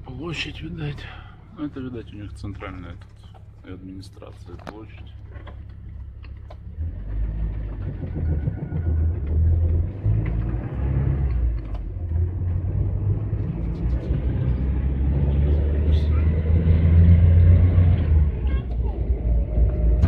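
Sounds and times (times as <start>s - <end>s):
van engine and road rumble: 0.0s - 20.0s.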